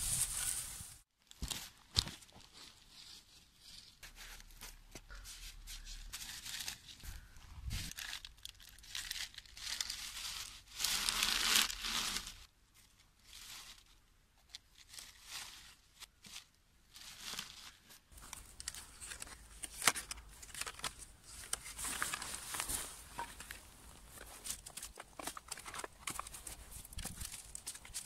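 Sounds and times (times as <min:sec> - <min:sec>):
dry reed stems rustling and crackling: 0:00.0 - 0:04.8, 0:05.4 - 0:12.5, 0:13.2 - 0:28.0.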